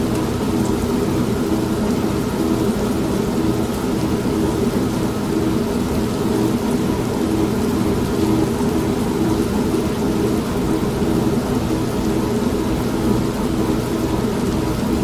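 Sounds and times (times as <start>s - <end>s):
steady rain: 0.0s - 15.0s
washing machine motor hum: 0.0s - 15.0s.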